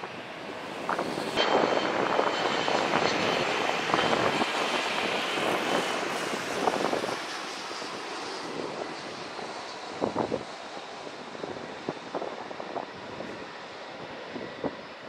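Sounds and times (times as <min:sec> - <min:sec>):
jet airliner passing low: 0:00.0 - 0:15.0.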